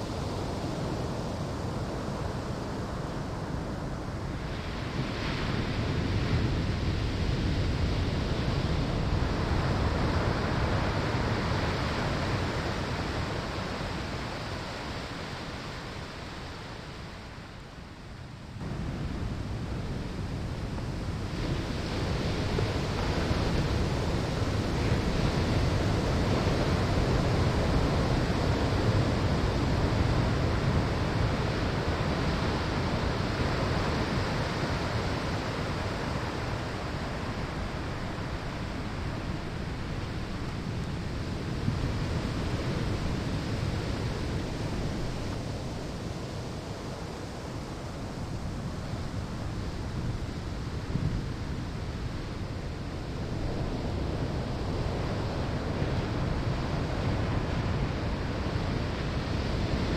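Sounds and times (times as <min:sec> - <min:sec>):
ocean surf breaking on sand: 0:00.0 - 0:59.9.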